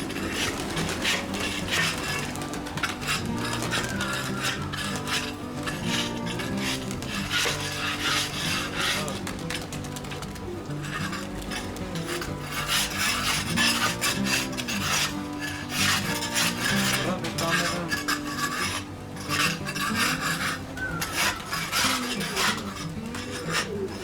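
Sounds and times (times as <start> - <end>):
pigeons cooing: 0.0 - 24.0
raspy rustling: 0.0 - 24.0.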